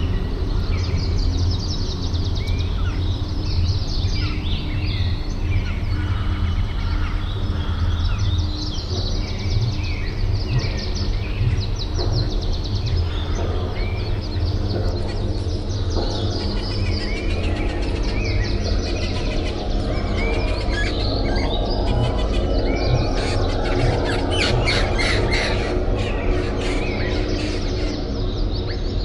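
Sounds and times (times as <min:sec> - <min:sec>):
birds chirping and calling: 0:00.0 - 0:29.0
steady low rumble: 0:00.0 - 0:29.0.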